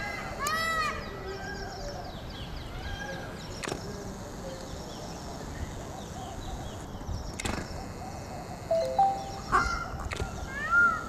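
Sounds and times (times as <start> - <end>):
low background noise: 0.0 - 11.0
small birds chirping: 0.2 - 11.0.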